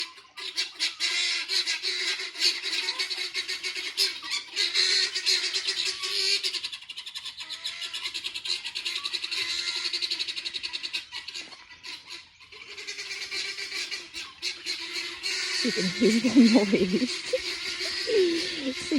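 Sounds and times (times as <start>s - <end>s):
guinea fowl calling: 0.0s - 18.9s.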